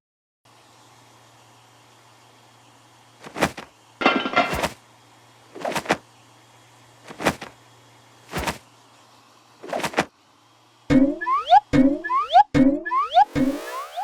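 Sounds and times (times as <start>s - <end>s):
faint steady hum: 0.5s - 14.0s.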